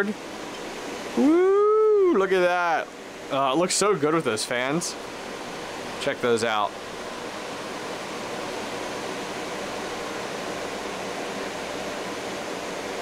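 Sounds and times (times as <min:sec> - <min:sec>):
cooling fans whooshing: 0:00.0 - 0:13.0.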